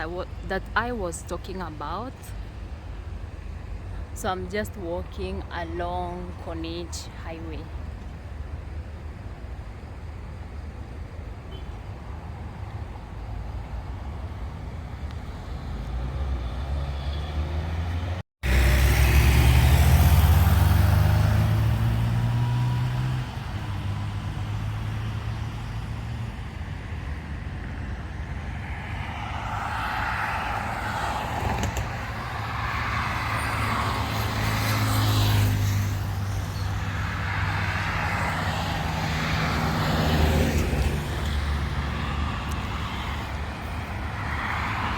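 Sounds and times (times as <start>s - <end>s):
vehicles passing on highway: 0.0s - 44.9s.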